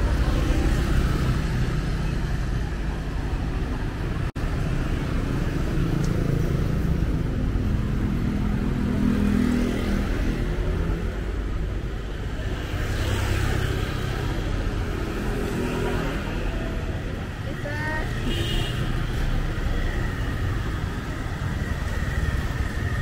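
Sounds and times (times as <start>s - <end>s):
motorbikes and cars passing: 0.0s - 23.0s.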